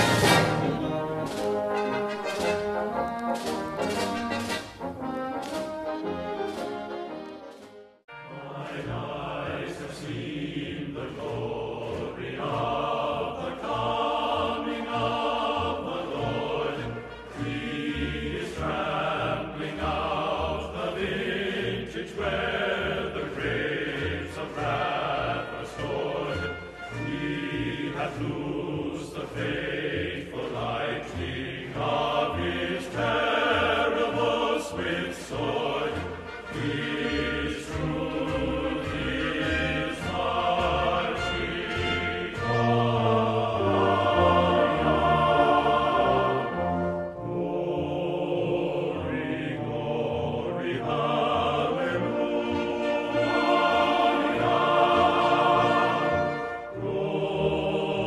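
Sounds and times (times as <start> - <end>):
instrumental accompaniment: 0.0 - 19.7, 30.4 - 57.6
choir singing: 0.0 - 58.0.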